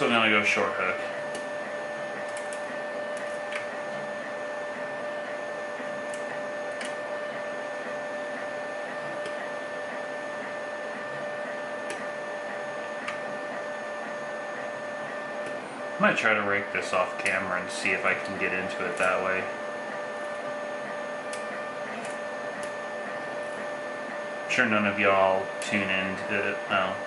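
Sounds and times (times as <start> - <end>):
three d printer whine: 0.0 - 27.0.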